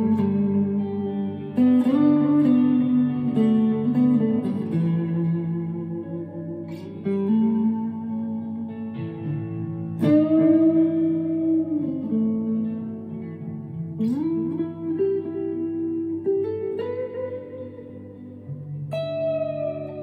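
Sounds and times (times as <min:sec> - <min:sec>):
electric guitar notes ringing: 0:00.0 - 0:20.0.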